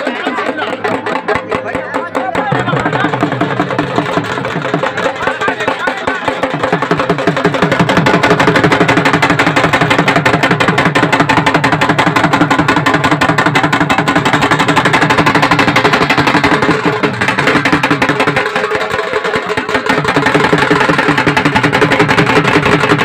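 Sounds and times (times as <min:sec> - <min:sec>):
barrel drums beating: 0:00.0 - 0:23.0.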